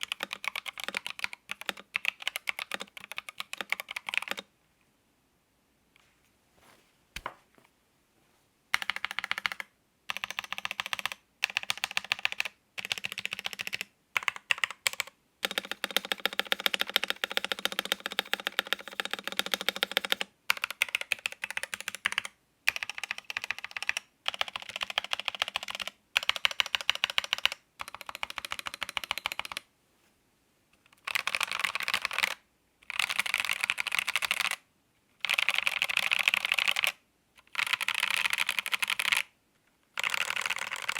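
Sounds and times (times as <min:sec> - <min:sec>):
mechanical keyboard typing: 0:00.0 - 0:04.5, 0:08.7 - 0:29.7, 0:31.0 - 0:34.6, 0:35.2 - 0:39.3, 0:40.0 - 0:40.9.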